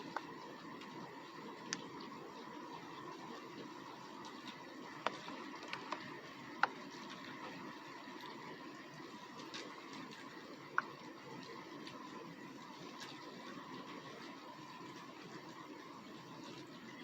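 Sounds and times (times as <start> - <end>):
raindrops striking: 0.0 - 16.4.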